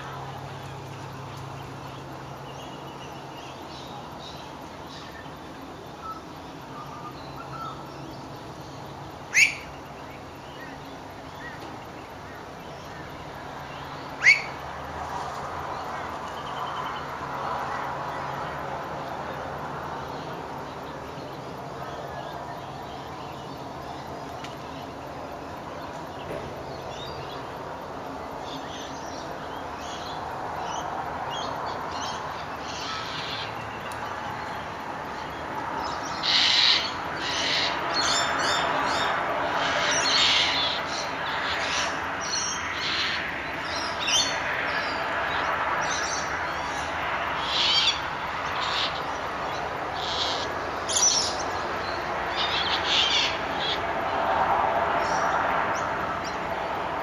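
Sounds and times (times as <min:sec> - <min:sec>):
birds calling and chattering: 0:00.0 - 0:57.0.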